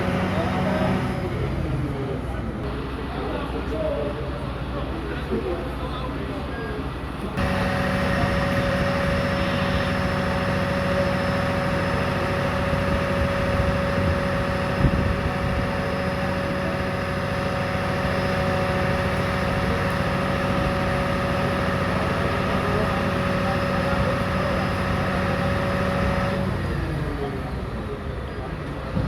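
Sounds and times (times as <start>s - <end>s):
fire engine running: 0.0s - 29.0s.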